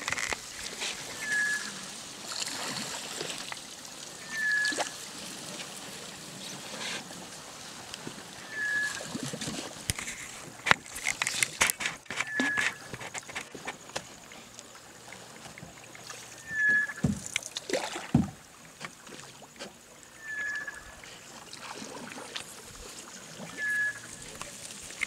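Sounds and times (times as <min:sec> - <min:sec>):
water sloshing around canoe: 0:00.0 - 0:25.0.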